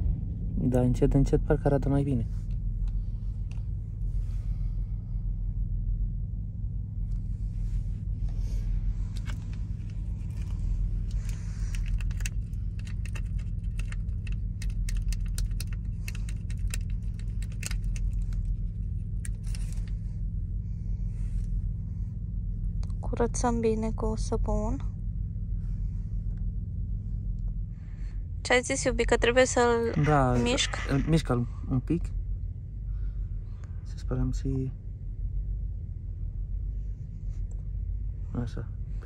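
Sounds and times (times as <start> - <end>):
idling engine drone: 0.0 - 39.0.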